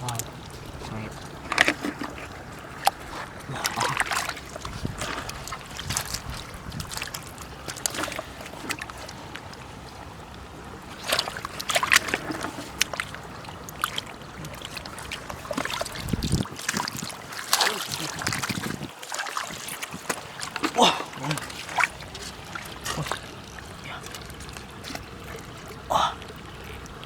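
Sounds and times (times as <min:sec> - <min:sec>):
water splashing and sloshing: 0:00.0 - 0:27.0.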